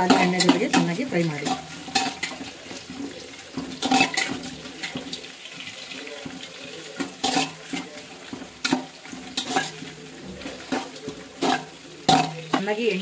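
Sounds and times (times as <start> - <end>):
onions sizzling in hot oil: 0.0 - 13.0
spatula scraping metal pot: 0.0 - 13.0.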